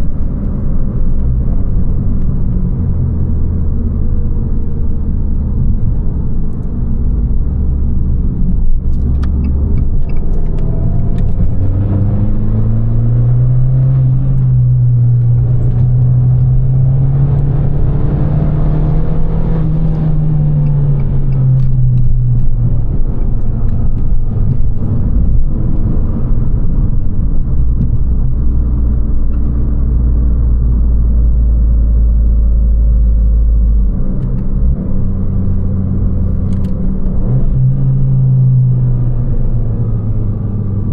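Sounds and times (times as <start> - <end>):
car engine under load: 0.0 - 40.9
low road rumble: 0.0 - 40.9.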